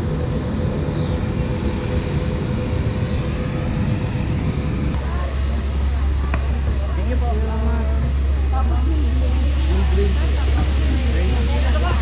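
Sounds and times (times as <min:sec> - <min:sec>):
jet engines rumbling: 0:00.0 - 0:12.0
thin steady whine: 0:00.0 - 0:12.0.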